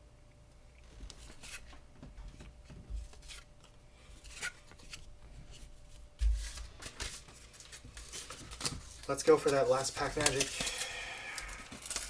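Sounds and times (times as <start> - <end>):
cards rustling and sliding: 1.1 - 1.8, 3.0 - 12.0.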